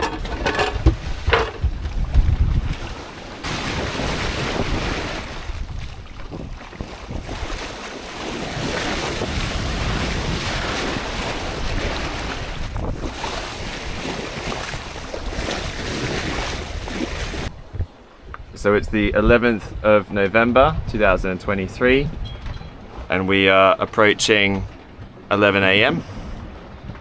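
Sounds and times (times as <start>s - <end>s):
water splashing along a hull: 0.0s - 27.0s
wind buffeting microphone: 0.0s - 27.0s.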